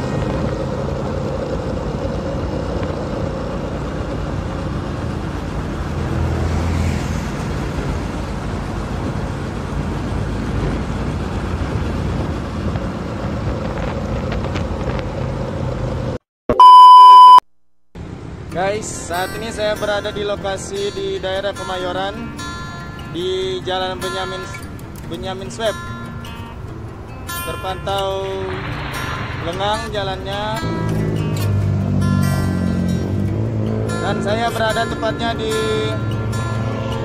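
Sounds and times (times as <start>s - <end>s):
motorcycles passing: 0.0s - 16.2s, 18.0s - 37.0s
road traffic drone: 0.0s - 17.4s, 18.0s - 37.0s.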